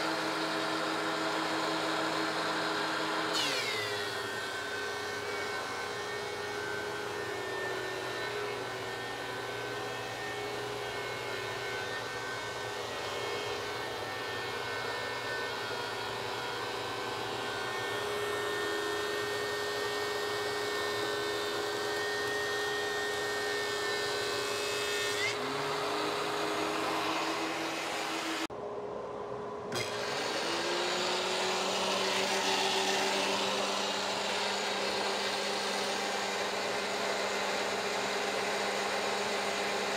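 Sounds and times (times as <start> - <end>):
planer spinning up: 0.0 - 28.5, 29.7 - 39.9
thickness planer motor whine: 0.0 - 39.9.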